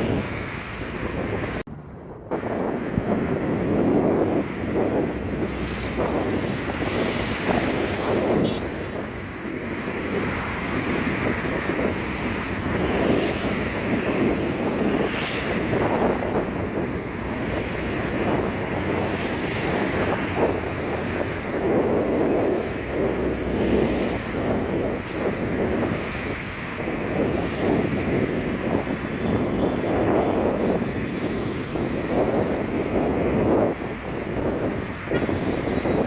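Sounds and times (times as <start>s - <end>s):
wind gusting on microphone: 0.0s - 36.0s.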